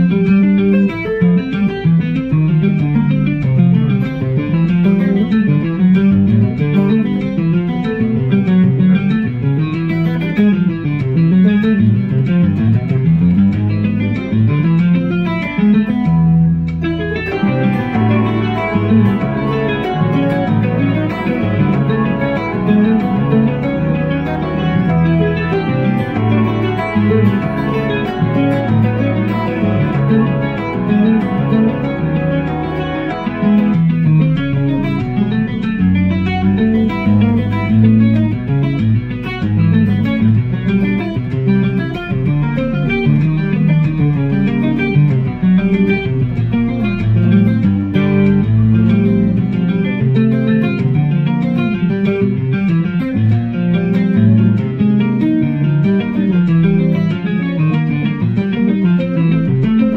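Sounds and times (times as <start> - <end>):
backing track with bass: 0.0 - 59.9
electric guitar single-note lines: 0.0 - 59.9.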